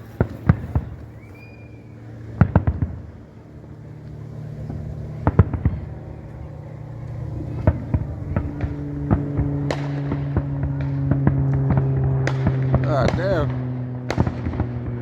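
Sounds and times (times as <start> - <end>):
fireworks sharp bangs: 0.0 - 3.7, 4.6 - 15.0
steady low hum: 0.0 - 15.0.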